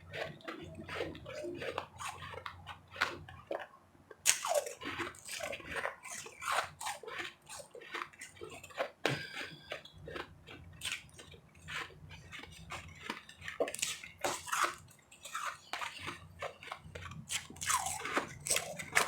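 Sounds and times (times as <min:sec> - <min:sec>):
person chewing crunchy ice: 0:00.0 - 0:19.0.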